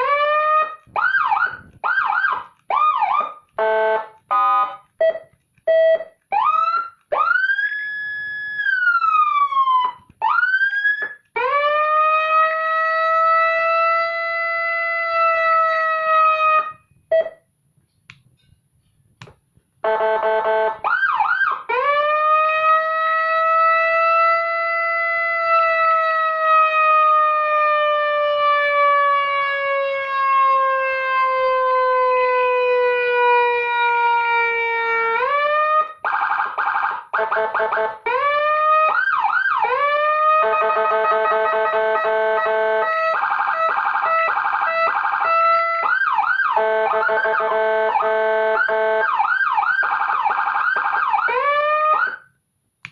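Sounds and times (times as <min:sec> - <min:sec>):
electronic siren tones: 0:00.0 - 0:17.4, 0:19.8 - 0:52.3.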